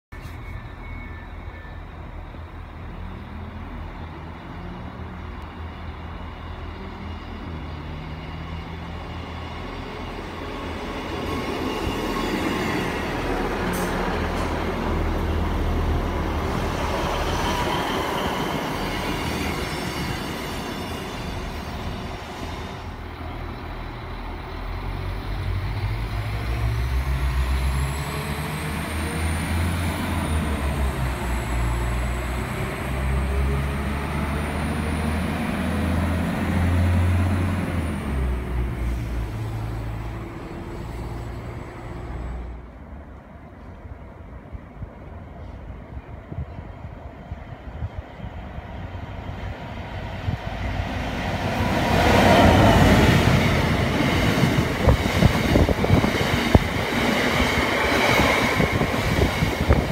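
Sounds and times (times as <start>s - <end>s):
diesel train rolling past: 0.1s - 59.9s
diesel train pulling away with whine: 0.2s - 59.9s.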